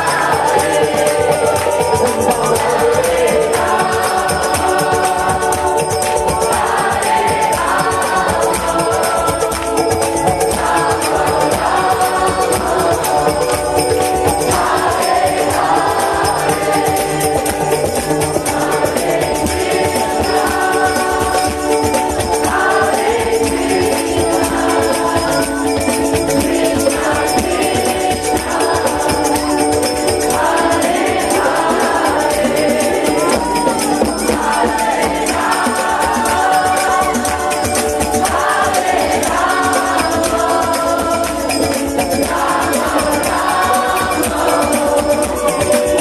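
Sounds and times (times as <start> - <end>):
fast percussion beat: 0.0 - 46.0
voices singing a chant together: 0.0 - 46.0.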